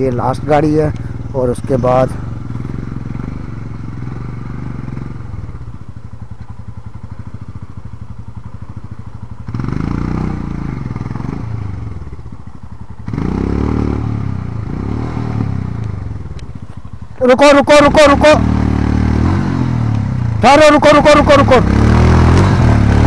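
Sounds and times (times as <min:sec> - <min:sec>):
motorcycle engines idling: 0:00.0 - 0:23.0
motorcycle revving: 0:00.0 - 0:23.0.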